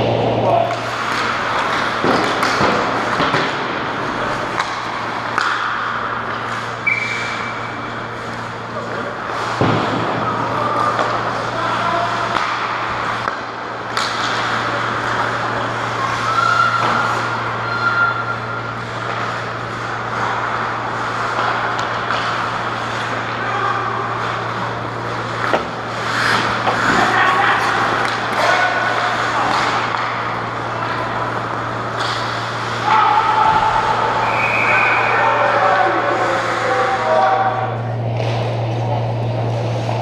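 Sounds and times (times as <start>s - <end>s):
hockey sticks clattering: 0.0s - 34.7s
low hum: 0.0s - 40.0s
skates scraping ice: 0.8s - 37.2s.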